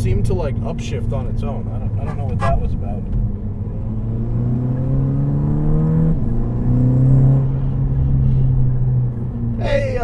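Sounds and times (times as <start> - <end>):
car engine accelerating: 1.5 - 9.6.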